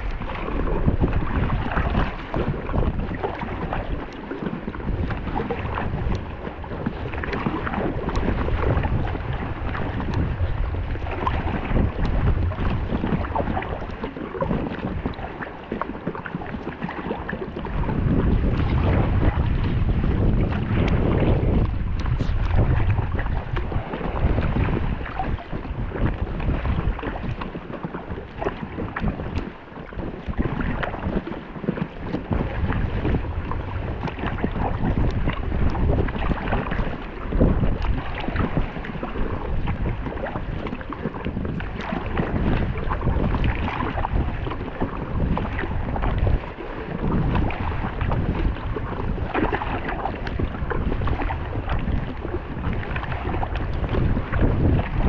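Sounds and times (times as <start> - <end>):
water splashing around kayak: 0.0 - 55.0
wind rumbling on microphone: 0.0 - 55.0.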